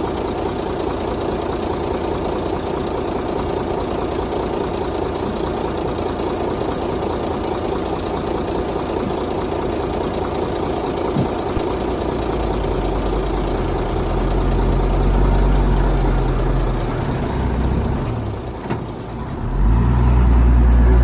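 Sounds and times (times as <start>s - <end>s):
diesel machinery engine drone: 0.0s - 21.0s.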